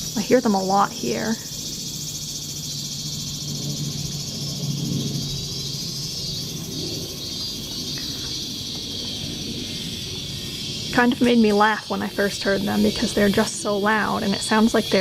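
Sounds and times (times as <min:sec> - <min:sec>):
cicadas buzzing in chorus: 0:00.0 - 0:15.0
low steady hum: 0:00.0 - 0:15.0.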